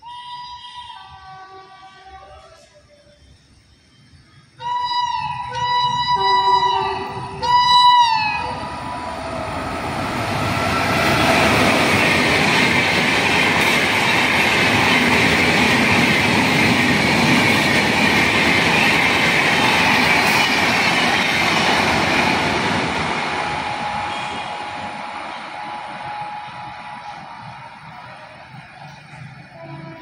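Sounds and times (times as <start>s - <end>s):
train wheels rushing on rails: 5.2s - 30.0s.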